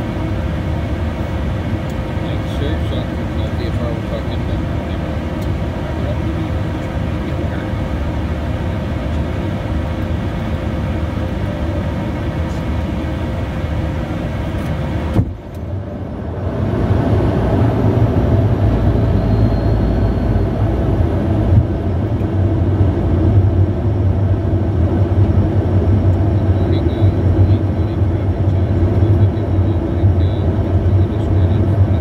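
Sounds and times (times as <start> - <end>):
jet cabin engine rumble: 0.0 - 32.0.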